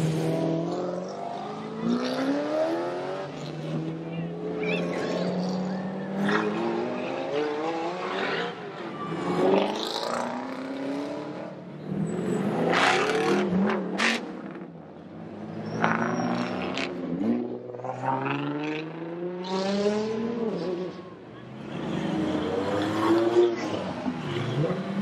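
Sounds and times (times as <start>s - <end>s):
sports car engines revving: 0.0s - 25.0s.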